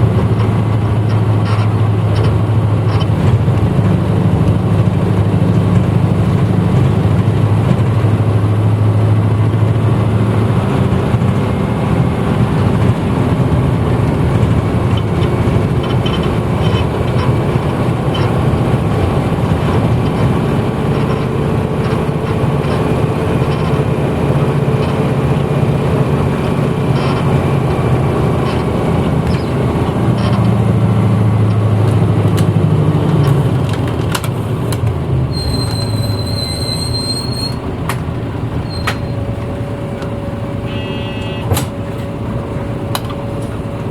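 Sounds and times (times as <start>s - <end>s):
bus diesel engine droning: 0.0s - 43.9s.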